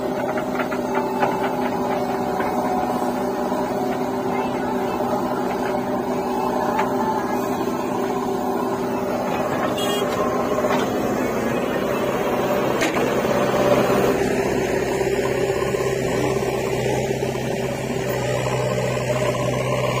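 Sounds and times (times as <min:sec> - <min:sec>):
diesel engine running: 0:00.0 - 0:20.0
tractor engine: 0:00.0 - 0:20.0.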